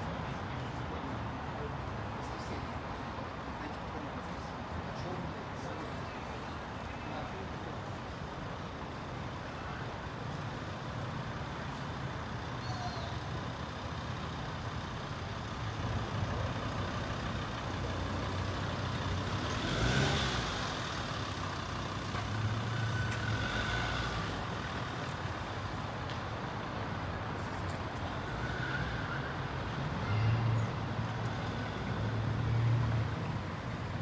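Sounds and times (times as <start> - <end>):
low traffic hum: 0.0 - 34.0
vehicle engines passing: 0.0 - 34.0.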